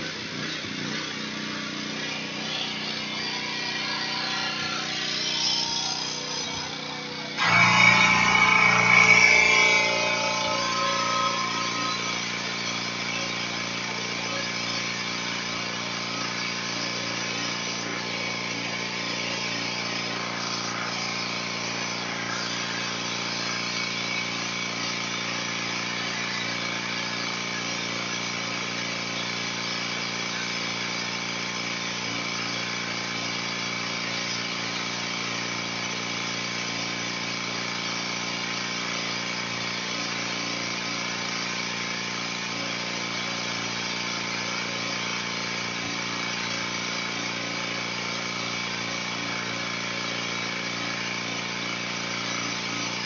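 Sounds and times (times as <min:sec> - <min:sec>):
pressure washer running: 0:00.0 - 0:53.0.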